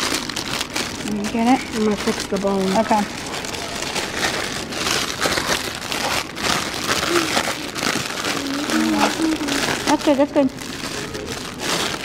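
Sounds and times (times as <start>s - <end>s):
cellophane bag crinkling: 0.0s - 12.0s.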